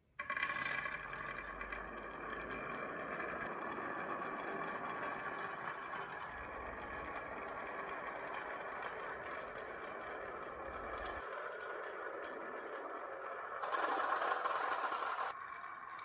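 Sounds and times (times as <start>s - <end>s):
marbles rolling on wooden track: 0.2s - 16.0s.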